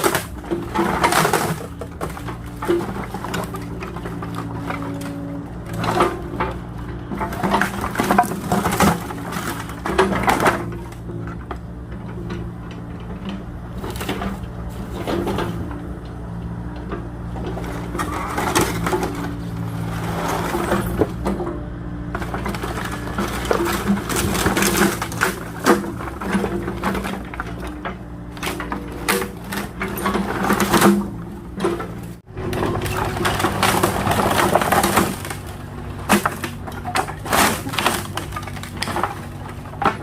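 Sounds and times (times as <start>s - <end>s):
wooden boards cracking and splintering: 0.0s - 11.6s, 17.4s - 21.3s, 22.1s - 40.0s
excavator engine running: 0.0s - 40.0s.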